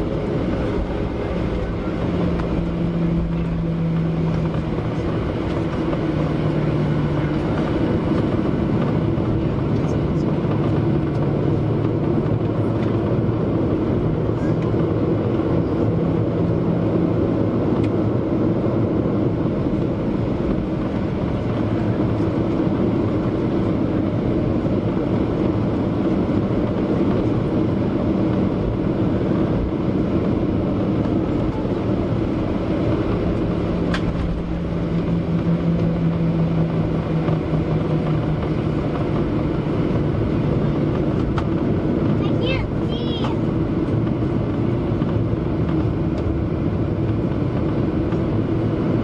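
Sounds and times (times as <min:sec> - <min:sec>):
airliner engines droning: 0:00.0 - 0:49.0.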